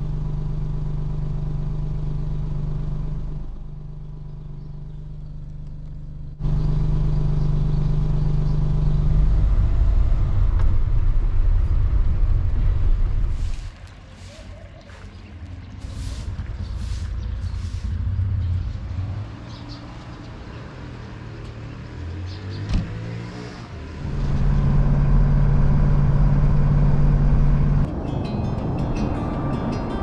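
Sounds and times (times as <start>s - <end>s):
van engine: 0.0s - 30.0s.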